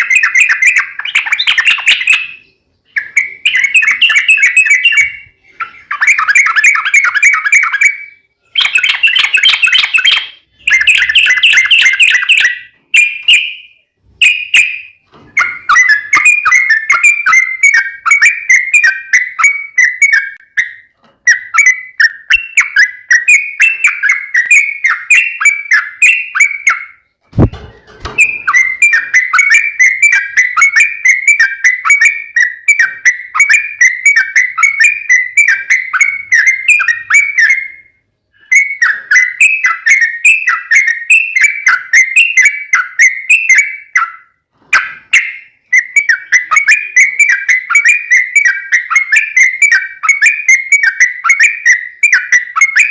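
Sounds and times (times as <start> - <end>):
bulbul singing: 0.0 - 52.9.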